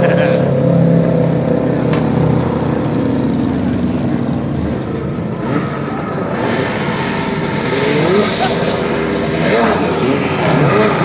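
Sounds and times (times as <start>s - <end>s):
racing lawn mower engines: 0.0s - 11.0s.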